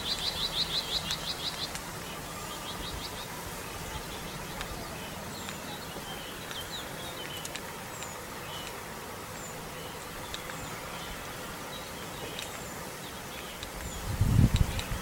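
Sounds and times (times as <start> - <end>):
outdoor background hum: 0.0 - 15.0
small birds chirping: 0.0 - 15.0.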